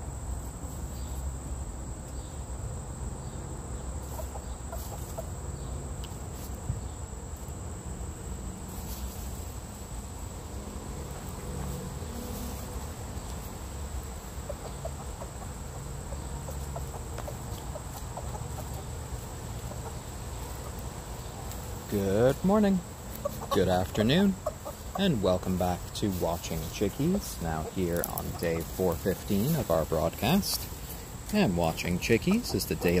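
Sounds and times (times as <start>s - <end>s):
high insect drone: 0.0s - 33.0s
chickens clucking: 4.0s - 6.6s, 8.7s - 33.0s.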